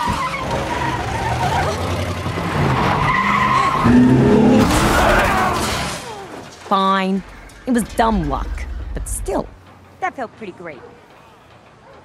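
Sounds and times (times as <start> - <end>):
tyres skidding: 0.0 - 12.0.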